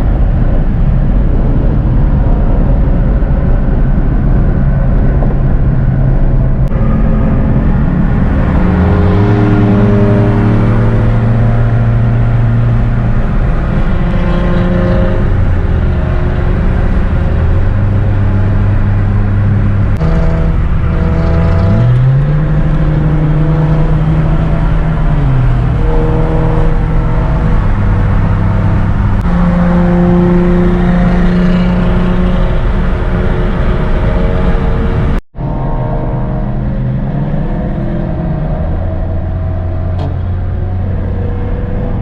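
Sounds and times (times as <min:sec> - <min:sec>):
car engines running loudly: 0:00.0 - 0:42.0.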